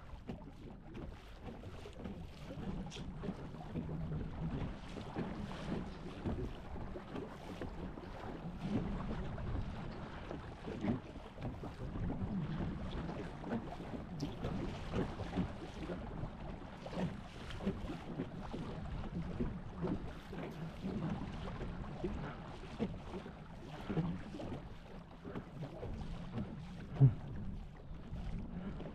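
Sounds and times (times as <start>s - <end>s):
water lapping around canoe: 0.0s - 28.9s.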